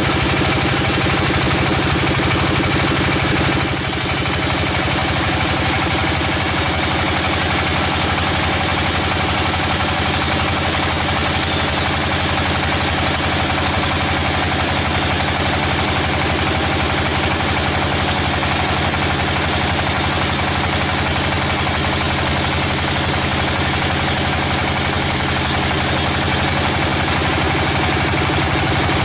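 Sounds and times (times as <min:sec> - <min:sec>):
sawmill machinery engine running: 0:00.0 - 0:29.0.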